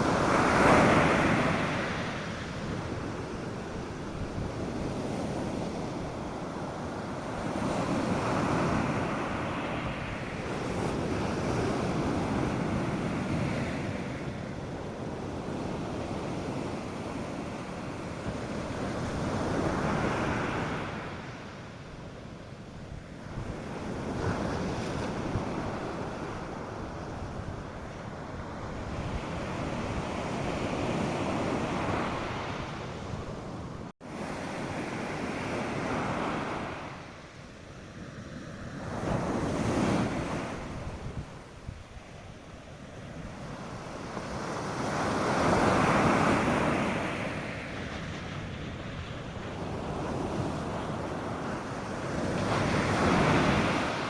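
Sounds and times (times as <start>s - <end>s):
surf breaking on a beach: 0.0s - 54.0s
wind buffeting the microphone: 0.0s - 54.0s.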